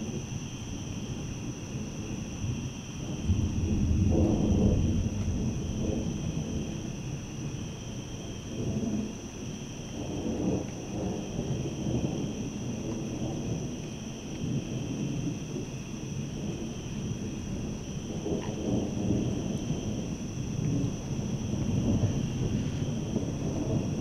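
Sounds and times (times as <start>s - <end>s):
thunder rumbling: 1.0s - 24.0s.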